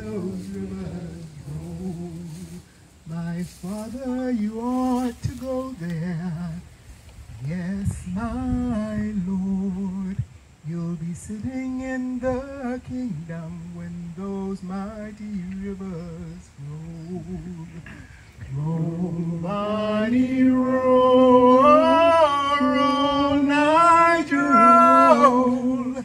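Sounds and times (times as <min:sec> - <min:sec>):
person singing unaccompanied: 0:00.0 - 0:26.0.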